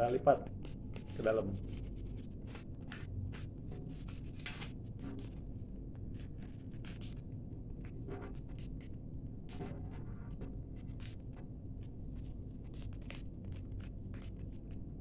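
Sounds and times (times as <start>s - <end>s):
paper rustling and scraping: 0.6s - 7.2s, 7.8s - 11.4s, 12.0s - 14.8s.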